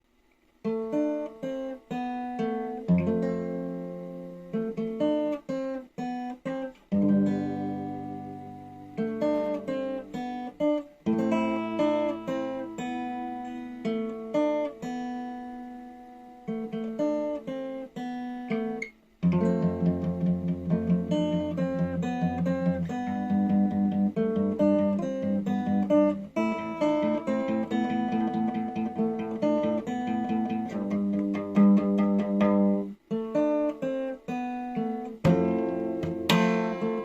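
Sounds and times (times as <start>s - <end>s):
acoustic guitar playing: 0.6s - 37.0s.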